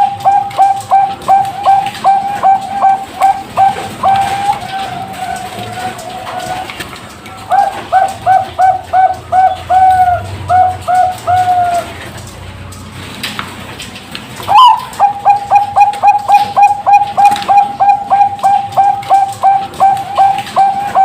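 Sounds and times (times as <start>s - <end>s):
dove cooing: 0.0s - 12.2s, 14.4s - 21.0s.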